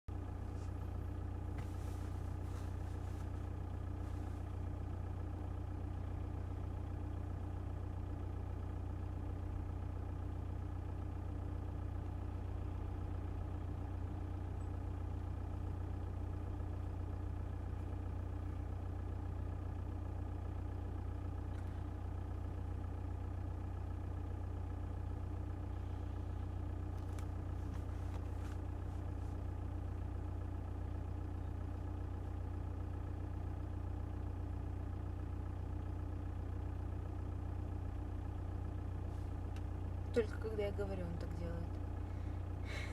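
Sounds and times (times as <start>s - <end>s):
diesel engine idling with knock: 0.1s - 42.9s.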